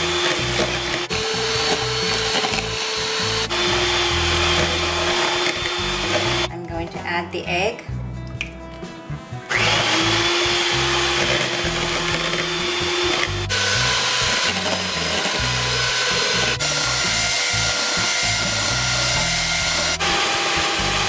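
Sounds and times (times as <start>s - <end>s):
electric hand mixer whirring: 0.0s - 6.5s, 9.5s - 21.0s
background music: 0.0s - 21.0s.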